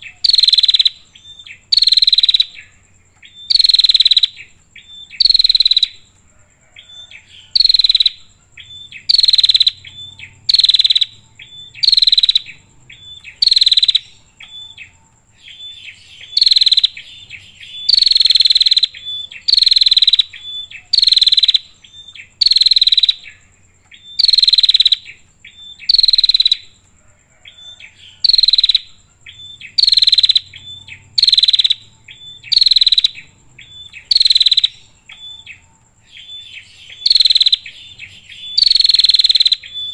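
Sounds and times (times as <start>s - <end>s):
bird sharp chirps: 0.0s - 6.0s, 7.0s - 26.8s, 27.7s - 39.9s.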